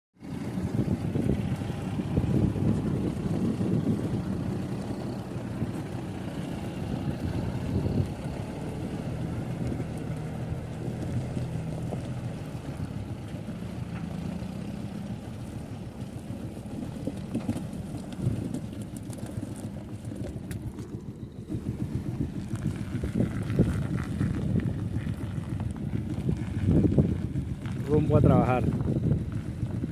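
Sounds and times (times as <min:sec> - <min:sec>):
wind noise on microphone: 0:00.2 - 0:13.2, 0:17.3 - 0:29.9
diesel engine running: 0:00.2 - 0:29.9.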